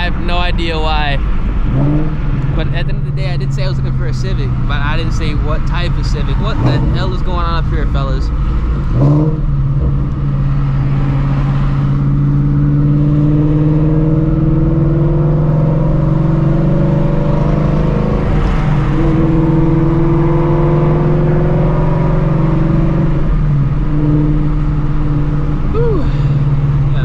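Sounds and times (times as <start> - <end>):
car engine at low revs: 0.0 - 27.0.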